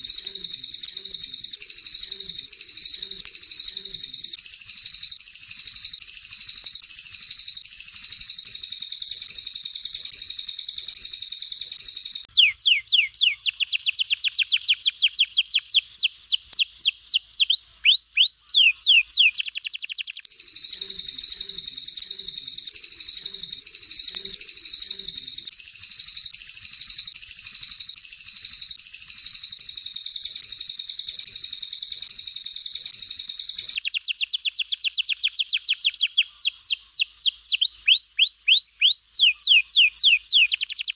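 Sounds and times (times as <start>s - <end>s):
downward-sweeping bird whistles: 0.0s - 40.9s
high rapid bird trilling: 0.0s - 40.9s.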